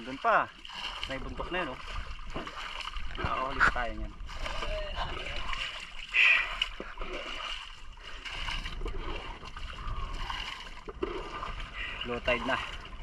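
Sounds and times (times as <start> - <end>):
seawater splashing and dripping: 0.0 - 13.0.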